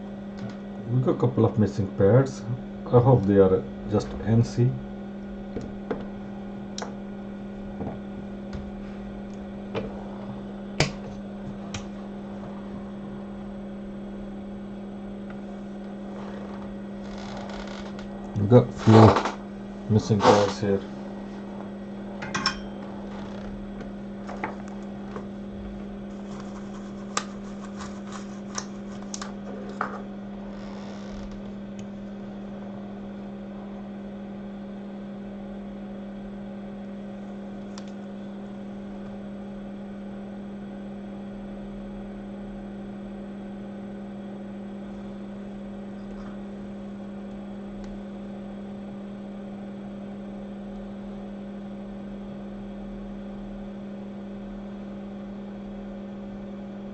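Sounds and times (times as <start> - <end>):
steady electrical hum: 0.0 - 56.9.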